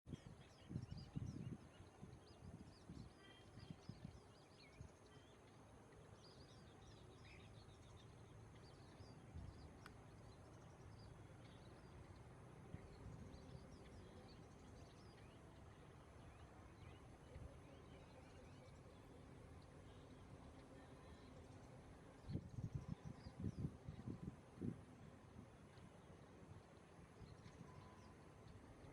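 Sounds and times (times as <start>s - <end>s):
birds chirping faintly: 0.1s - 28.9s
steady low background noise: 0.1s - 28.9s.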